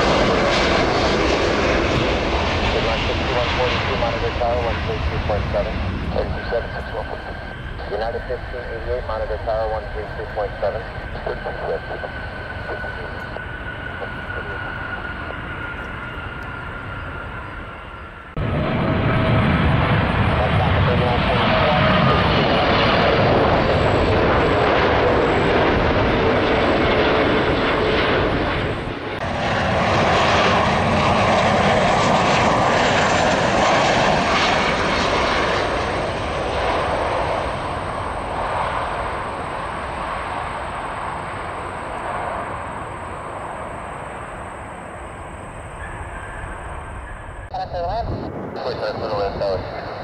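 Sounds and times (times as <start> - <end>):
jet airplane noise: 0.0 - 50.0
jet plane landing: 0.0 - 50.0.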